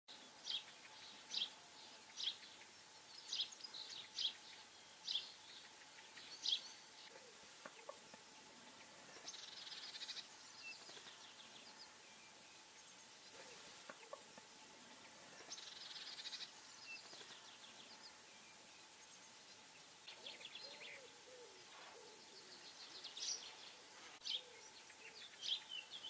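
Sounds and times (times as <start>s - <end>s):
songbird calls: 0.1s - 26.0s.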